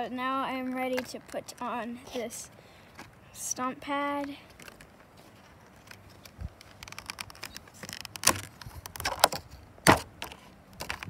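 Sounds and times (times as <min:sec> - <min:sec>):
plastic pad crackling and crinkling: 0:00.3 - 0:02.3, 0:04.0 - 0:11.0.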